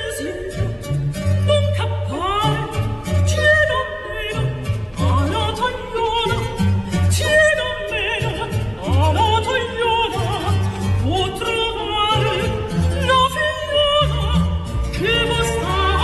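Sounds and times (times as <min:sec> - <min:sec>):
operatic singing voice: 0:00.0 - 0:16.0.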